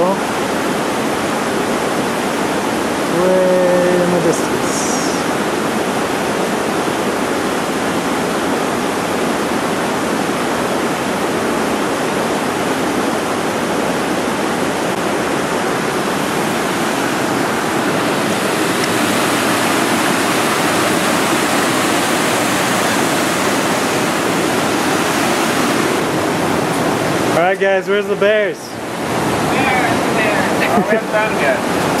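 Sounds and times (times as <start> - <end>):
creek rapids over boulders: 0.0 - 32.0
heavy rain: 0.0 - 32.0.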